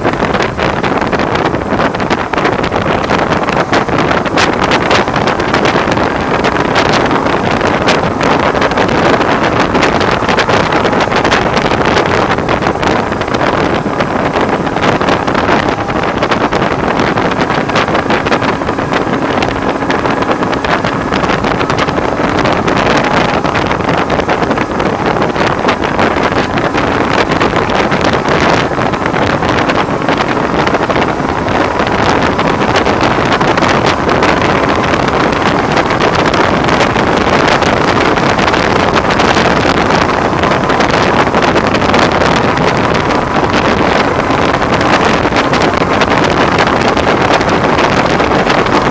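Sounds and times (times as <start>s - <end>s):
road noise: 0.0s - 48.9s
wind noise on microphone: 0.0s - 48.9s.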